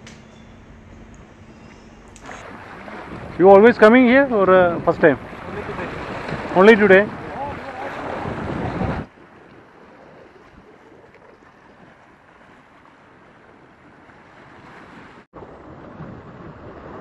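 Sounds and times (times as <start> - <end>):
wind gust on microphone: 0.0 - 12.9, 14.3 - 17.0
small waves breaking on rocks: 2.2 - 17.0.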